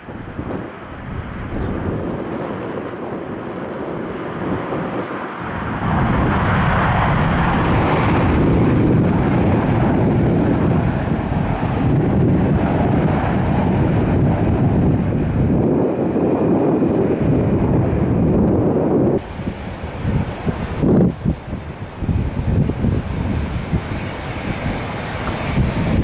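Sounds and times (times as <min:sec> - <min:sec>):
airliner engine rumble: 0:00.0 - 0:26.0.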